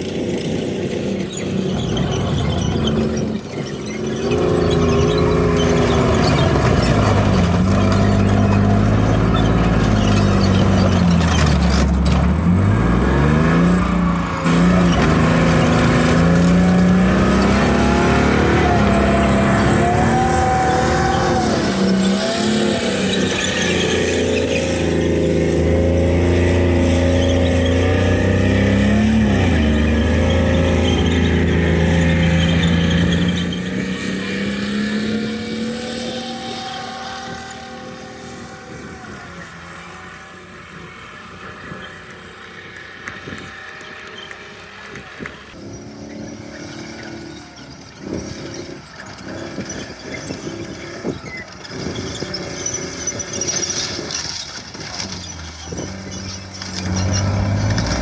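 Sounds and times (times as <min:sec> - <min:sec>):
heavy vehicle engine revving: 0:00.0 - 0:58.0.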